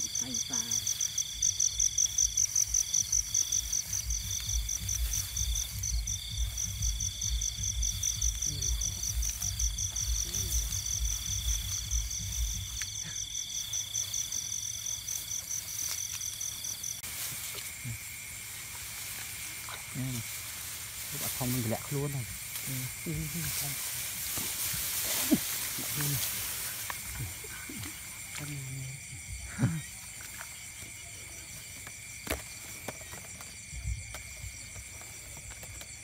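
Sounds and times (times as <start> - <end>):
broken insect trill: 0.0 - 36.0
faint low insect trill: 0.0 - 36.0
footsteps through grass: 0.0 - 36.0
rapid pulsing insect chirp: 0.0 - 36.0.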